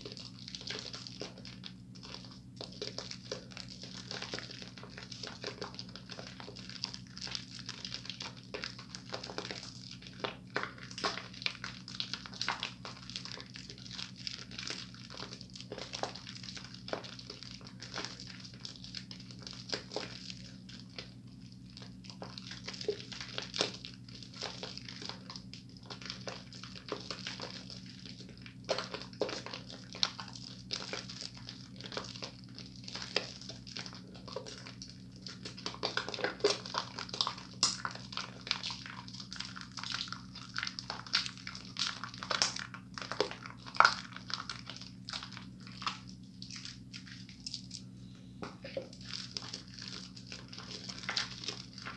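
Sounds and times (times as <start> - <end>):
soap lather squishing: 0.0 - 51.9
steady low hum: 0.0 - 51.9.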